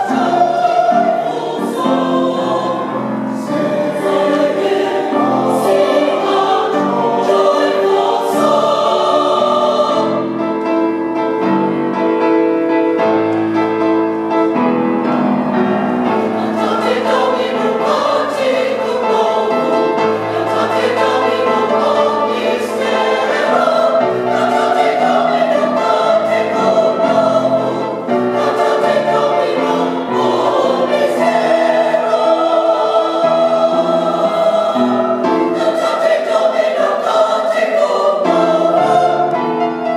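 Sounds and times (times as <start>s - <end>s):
mixed choir singing in parts: 0.0s - 39.9s.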